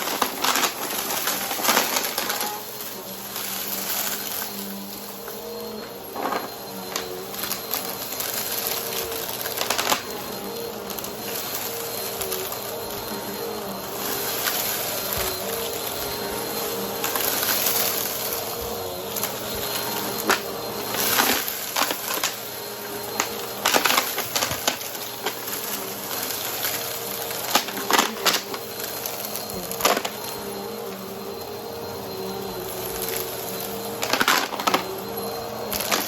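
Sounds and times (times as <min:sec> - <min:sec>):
vacuum cleaner motor whine: 0:00.0 - 0:36.0.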